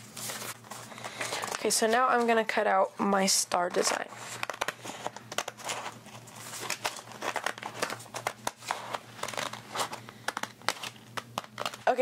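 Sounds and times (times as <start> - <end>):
paper rustling and crinkling: 0.0 - 2.4, 3.5 - 12.0.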